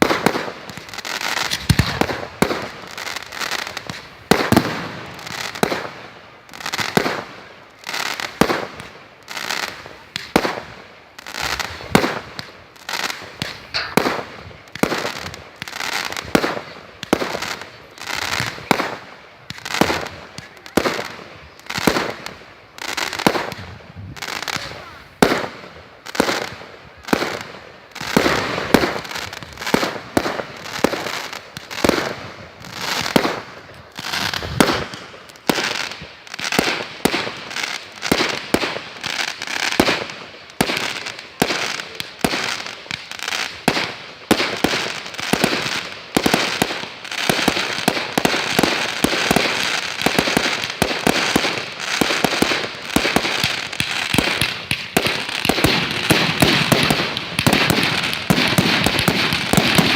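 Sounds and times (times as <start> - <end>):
fireworks booming: 0.0 - 59.9
fireworks crackling: 0.0 - 59.9.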